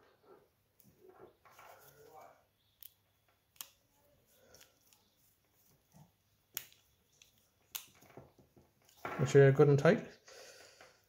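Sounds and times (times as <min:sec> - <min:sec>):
small handling sounds: 0:00.2 - 0:09.4.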